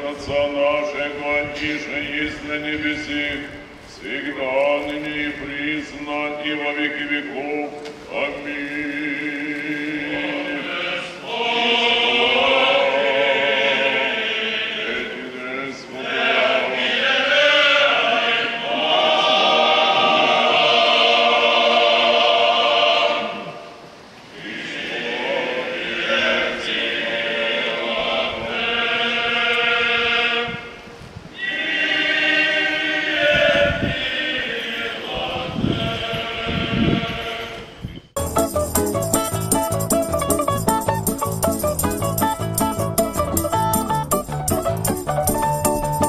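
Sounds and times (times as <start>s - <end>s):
choir chanting a hymn: 0.0s - 37.9s.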